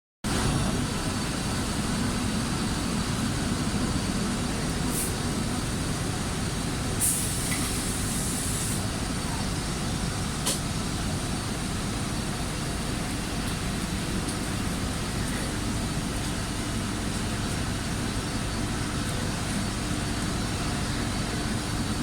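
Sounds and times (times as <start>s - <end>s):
engine drone: 0.3s - 22.0s.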